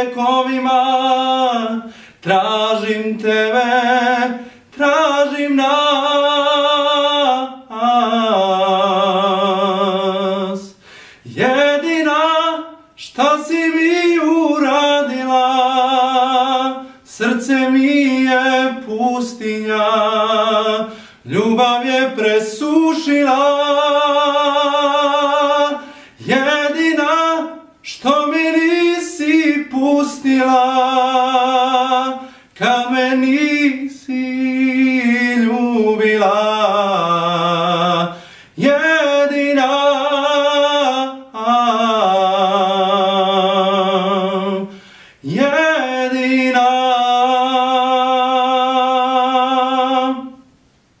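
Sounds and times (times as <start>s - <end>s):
man singing unaccompanied: 0.0s - 50.6s.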